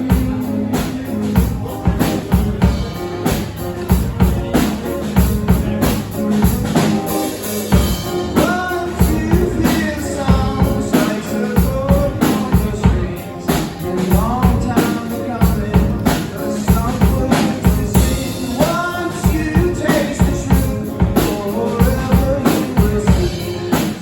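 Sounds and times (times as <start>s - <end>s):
drum kit: 0.0s - 24.0s
guitar: 0.0s - 24.0s.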